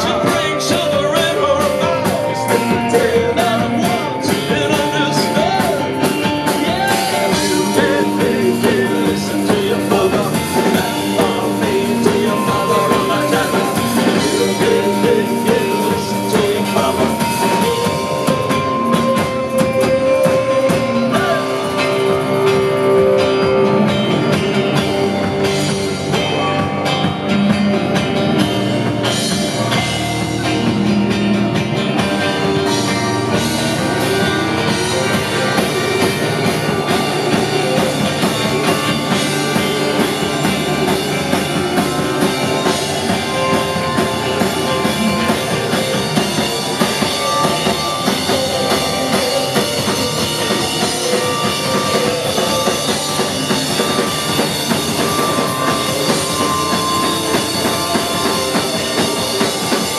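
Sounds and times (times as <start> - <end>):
drum kit: 0.0 - 59.9
upright bass: 0.0 - 59.9.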